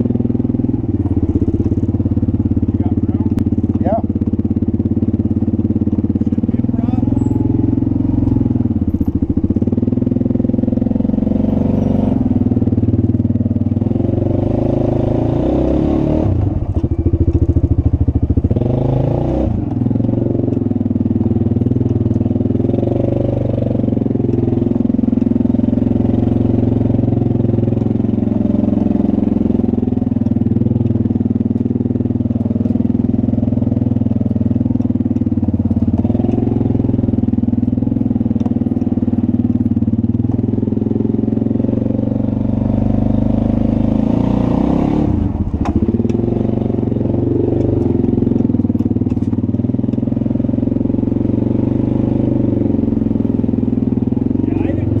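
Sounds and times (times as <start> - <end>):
vehicle engine running at low speed: 0.0 - 55.0.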